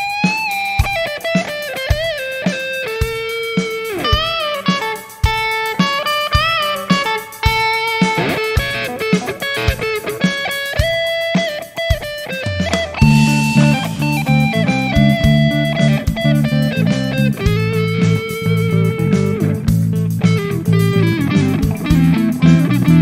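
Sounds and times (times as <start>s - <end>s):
electric guitar lead with bends: 0.0s - 23.0s
steady drum beat: 0.0s - 23.0s.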